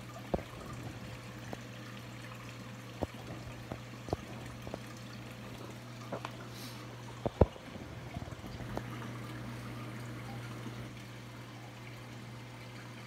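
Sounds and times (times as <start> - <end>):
water trickling in aquarium: 0.0 - 13.0.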